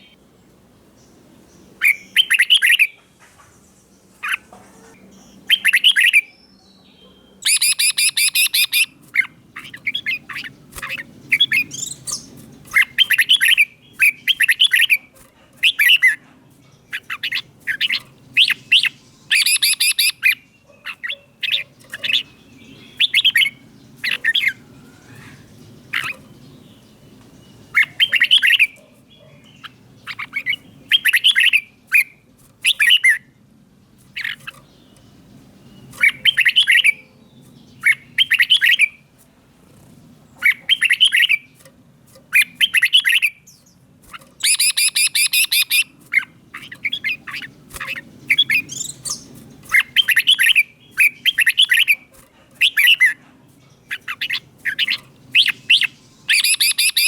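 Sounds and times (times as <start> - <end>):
bulbuls singing: 0.0 - 57.0.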